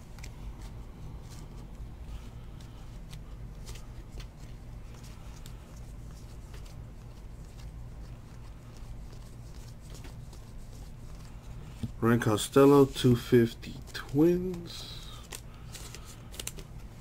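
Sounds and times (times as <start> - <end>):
cards clicking and rustling: 0.0 - 17.0.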